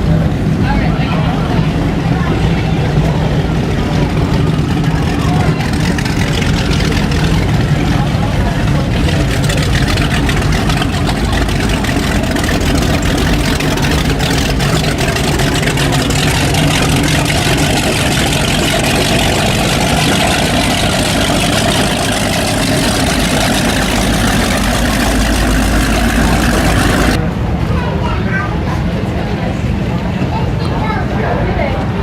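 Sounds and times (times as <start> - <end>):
powerboat engines idling: 0.0 - 27.5.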